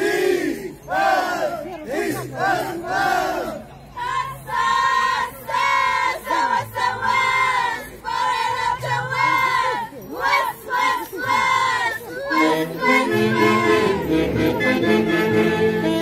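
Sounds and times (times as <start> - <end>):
high voices chanting in unison: 0.0 - 16.0.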